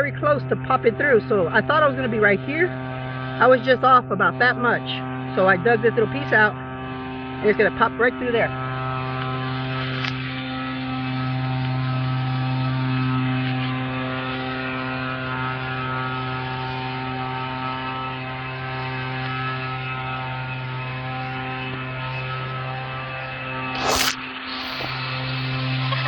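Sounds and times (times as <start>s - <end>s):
electric hum: 0.0s - 26.0s.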